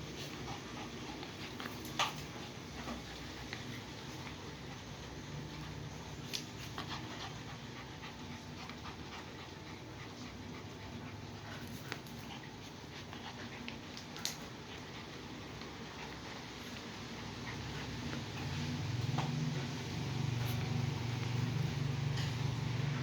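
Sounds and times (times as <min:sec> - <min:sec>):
puppy panting: 0:00.0 - 0:23.0.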